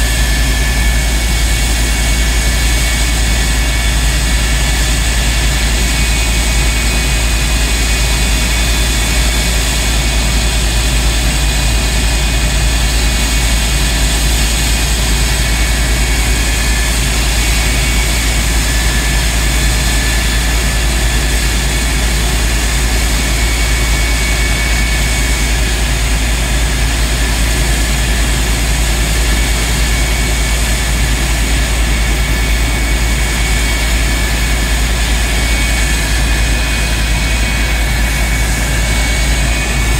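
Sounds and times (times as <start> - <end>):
jet engine whining and rumbling: 0.0 - 39.9.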